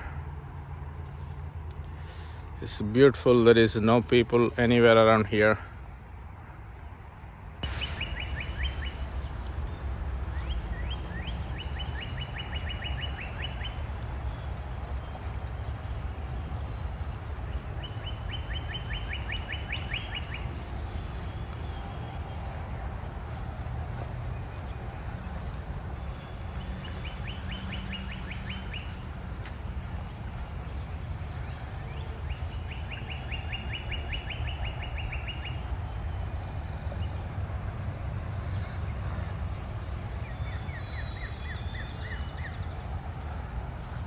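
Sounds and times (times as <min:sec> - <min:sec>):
songbird singing downslurred notes: 0:07.6 - 0:44.0
steady low rumble: 0:07.6 - 0:44.0.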